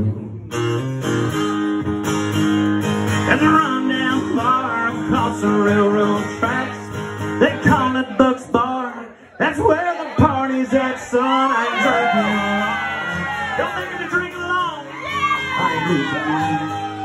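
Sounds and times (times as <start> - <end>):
acoustic guitar strumming: 0.0 - 17.0
person singing: 3.2 - 17.0.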